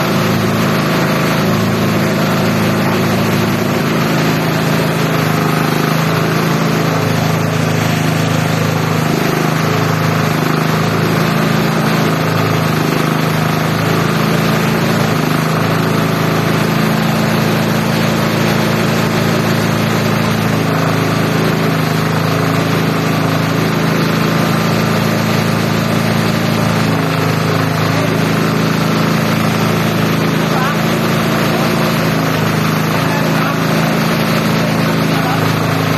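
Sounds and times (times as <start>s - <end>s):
shredder machine droning: 0.0s - 35.9s.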